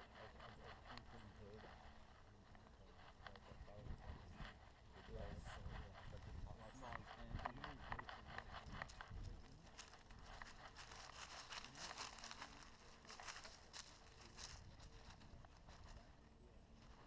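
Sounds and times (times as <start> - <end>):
faint crunching and rustling: 0.0 - 17.0.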